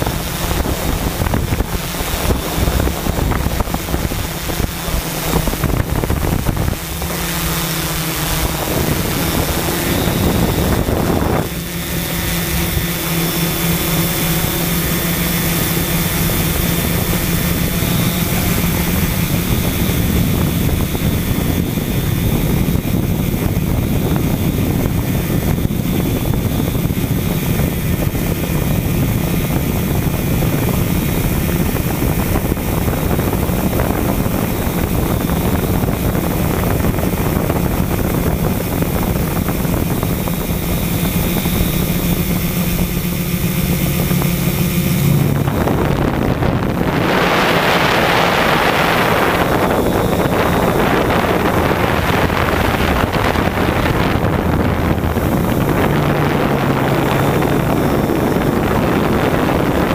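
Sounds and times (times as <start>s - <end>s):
drone motors humming: 0.0s - 59.9s
rush of air: 0.0s - 59.9s.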